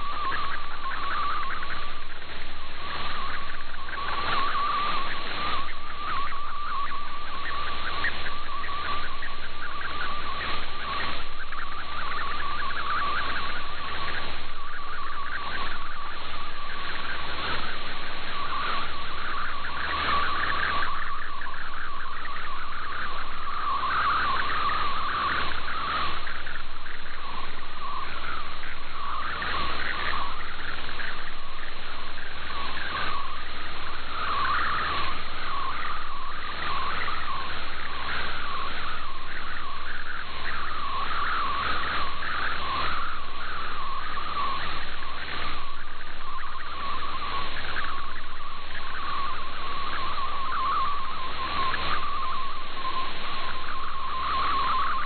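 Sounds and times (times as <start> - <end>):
radio band noise hiss: 0.0 - 55.0
warbling digital signal tones: 0.0 - 55.0.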